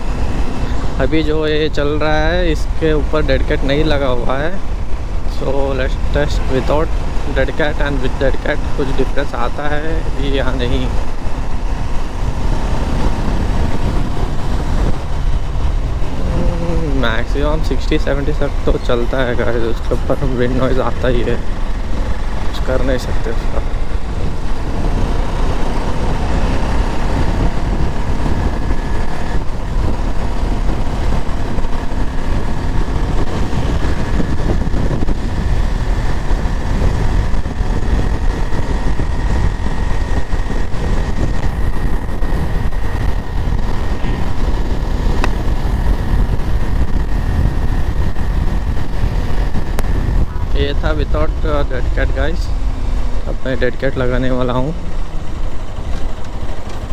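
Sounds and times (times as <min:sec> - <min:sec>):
motorcycle engine running: 0:00.0 - 0:56.9
wind buffeting microphone: 0:00.0 - 0:56.9.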